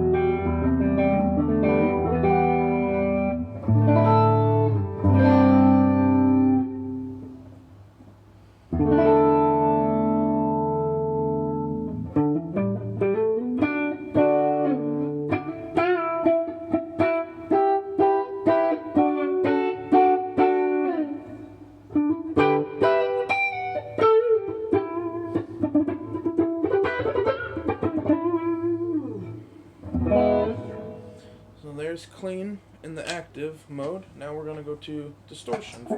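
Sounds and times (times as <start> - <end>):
clean electric guitar: 0.0 - 31.6.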